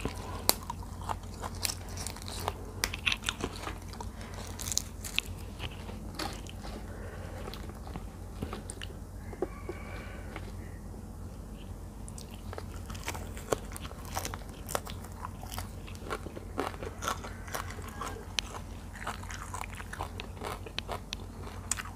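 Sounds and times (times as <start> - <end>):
crisp crunching chewing: 0.0 - 9.8, 12.0 - 21.9
steady low hum: 0.0 - 21.9.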